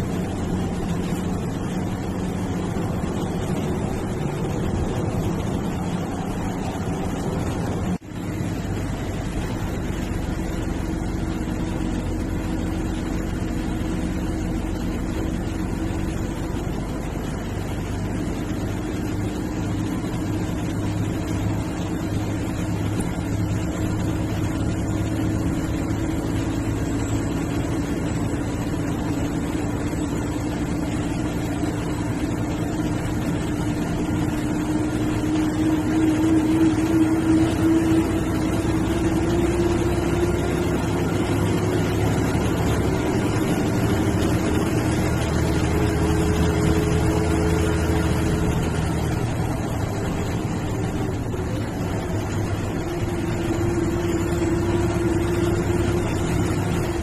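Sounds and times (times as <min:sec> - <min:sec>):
bus engine and road noise: 0:00.0 - 0:57.0.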